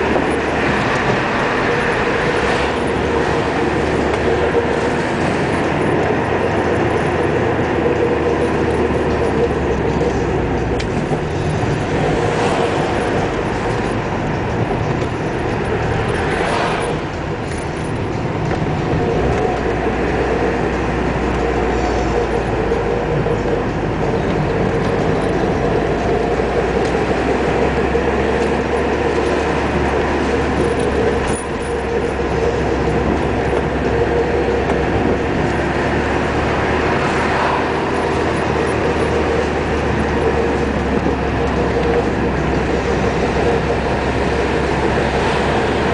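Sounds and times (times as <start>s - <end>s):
car engine drone: 0.0s - 45.9s
tyre noise: 0.0s - 45.9s.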